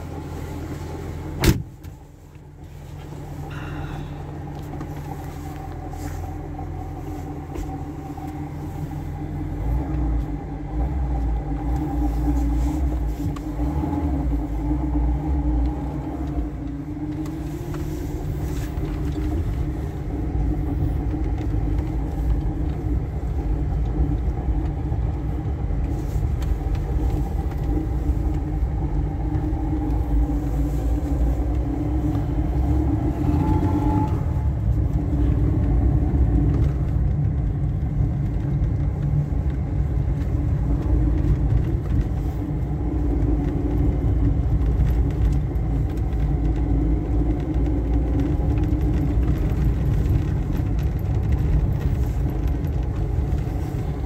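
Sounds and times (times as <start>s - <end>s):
car engine heard from inside: 0.0s - 54.0s
deep rumble: 0.0s - 54.0s.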